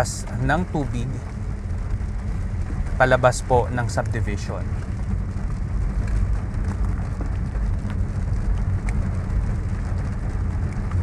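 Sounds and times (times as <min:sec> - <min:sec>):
engine and tyres rumbling: 0:00.0 - 0:11.0
light taps of raindrops: 0:00.0 - 0:11.0
rain falling on car: 0:00.0 - 0:11.0.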